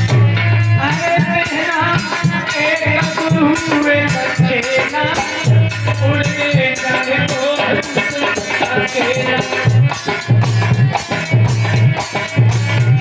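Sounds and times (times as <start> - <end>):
hand-drum beat: 0.0 - 13.0.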